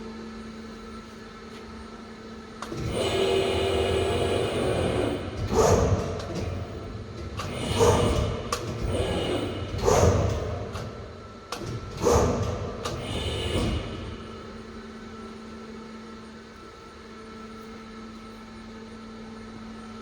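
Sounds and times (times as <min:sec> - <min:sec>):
steady motor hum: 0:00.0 - 0:20.0.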